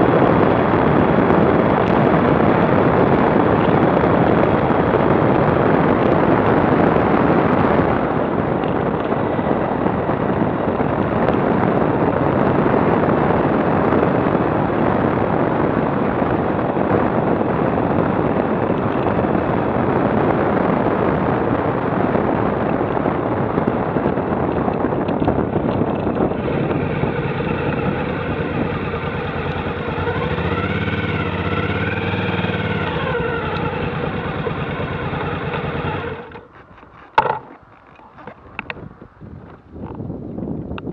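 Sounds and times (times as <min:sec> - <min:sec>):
motorcycle engine: 0:00.0 - 0:38.7
wind rushing over microphone: 0:00.0 - 0:40.9.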